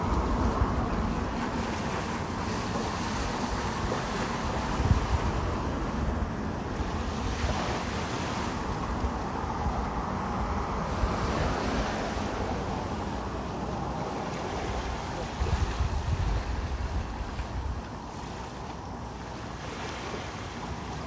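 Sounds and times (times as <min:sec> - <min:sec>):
waves washing on shore: 0:00.0 - 0:21.0
wind rumbling on microphone: 0:00.0 - 0:21.0.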